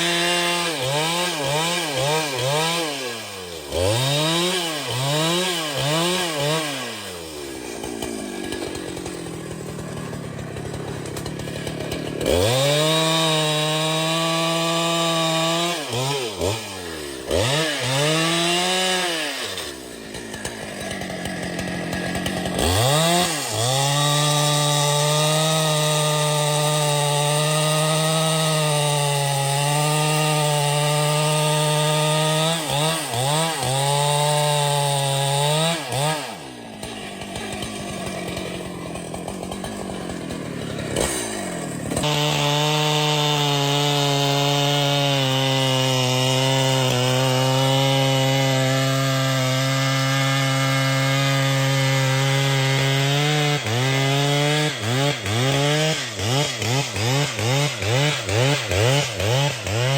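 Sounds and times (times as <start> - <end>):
chainsaw revving and cutting: 0.0 - 59.9.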